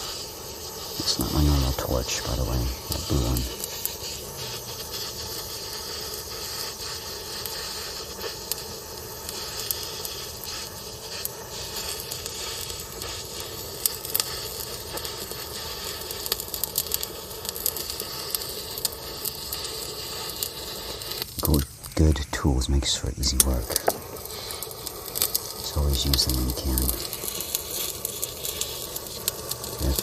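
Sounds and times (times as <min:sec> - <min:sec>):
gas torch hissing: 0:00.0 - 0:30.0
sharp crackles: 0:00.0 - 0:30.0.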